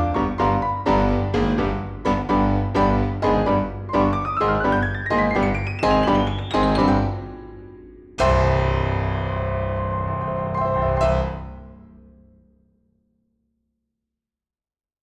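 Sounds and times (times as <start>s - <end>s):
piano music: 0.0s - 12.2s.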